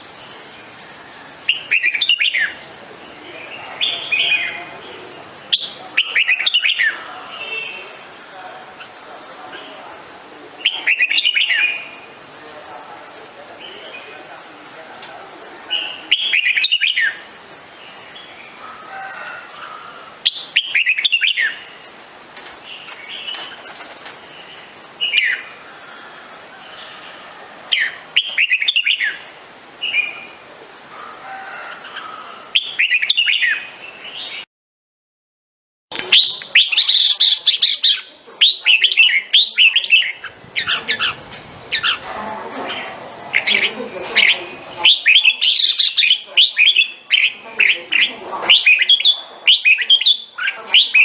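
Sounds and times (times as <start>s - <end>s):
bird singing warbled phrases: 0.0s - 30.5s, 31.7s - 34.5s, 35.9s - 51.0s.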